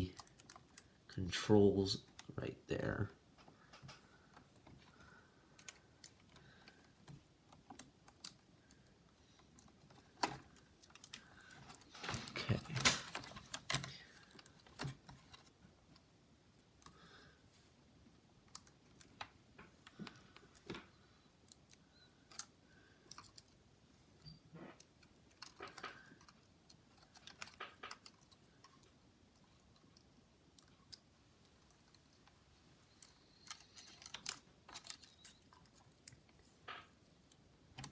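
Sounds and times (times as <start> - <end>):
plastic parts clicking and tapping: 0.0 - 1.2, 3.3 - 17.0, 18.4 - 37.9.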